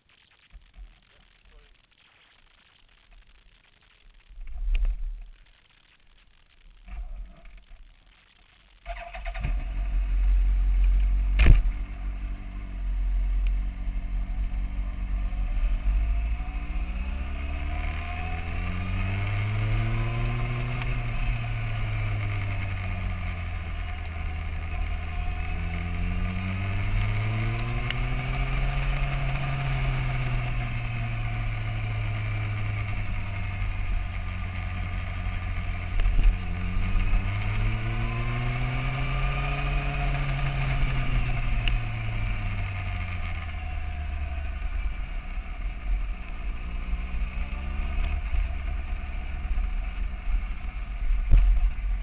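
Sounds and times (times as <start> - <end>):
motorcycle engine: 8.8 - 52.0.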